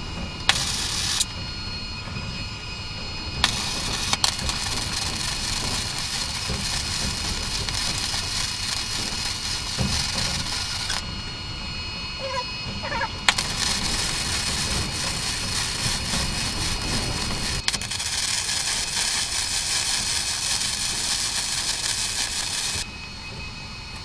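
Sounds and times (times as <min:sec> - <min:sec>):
welding arc buzzing: 0:00.0 - 0:23.3.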